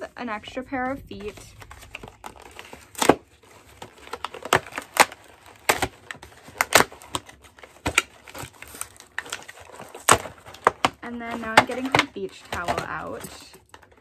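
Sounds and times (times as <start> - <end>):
plastic packaging clicking: 1.8 - 14.0.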